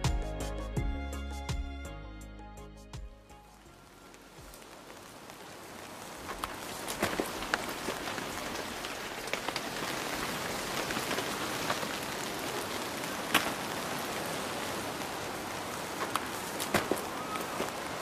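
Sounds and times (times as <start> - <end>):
rain hissing: 3.2 - 18.0
raindrops ticking: 3.4 - 18.0.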